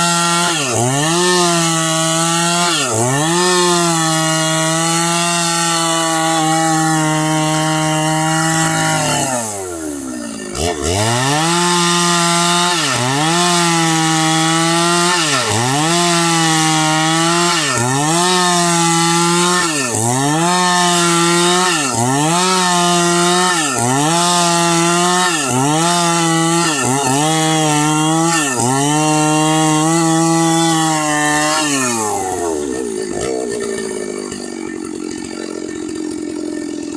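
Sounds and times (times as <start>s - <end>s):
chainsaw cutting log: 0.0s - 36.9s.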